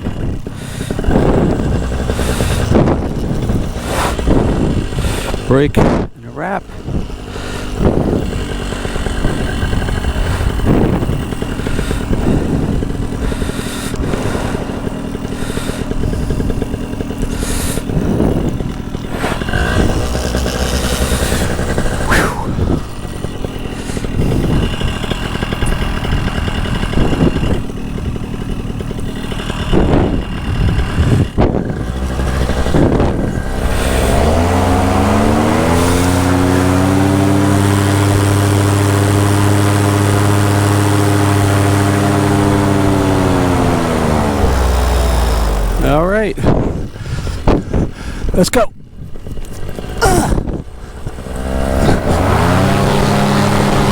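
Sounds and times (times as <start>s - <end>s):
paramotor engine: 0.0s - 53.9s
wind buffeting microphone: 0.0s - 53.9s.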